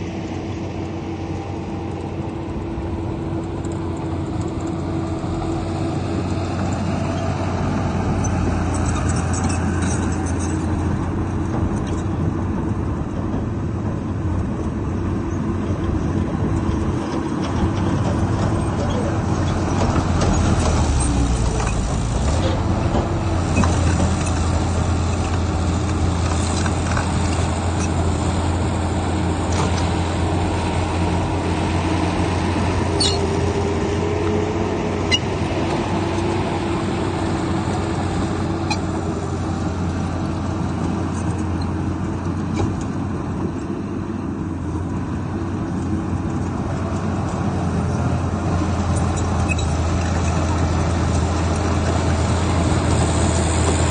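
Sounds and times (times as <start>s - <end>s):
heavy machinery engine hum: 0.0s - 53.9s.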